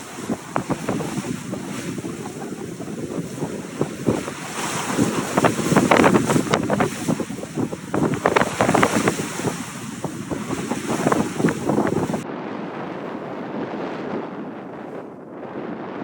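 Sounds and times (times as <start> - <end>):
sea waves splashing: 0.0 - 15.0
wind buffeting microphone: 0.0 - 16.0.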